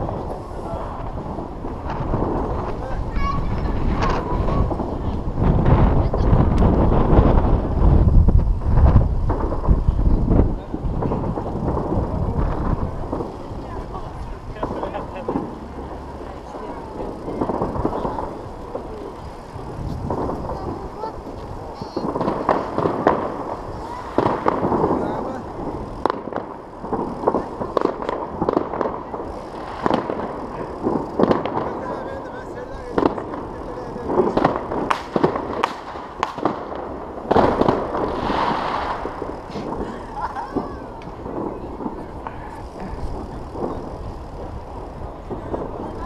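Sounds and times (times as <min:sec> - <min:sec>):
fireworks popping and crackling: 0:00.0 - 0:46.0
murmur of people talking: 0:00.0 - 0:46.0
wind on microphone: 0:00.0 - 0:46.0.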